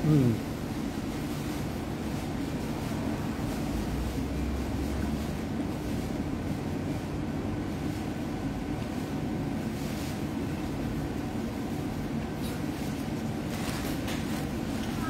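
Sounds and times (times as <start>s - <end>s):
low mechanical hum and rumble: 0.0s - 15.0s.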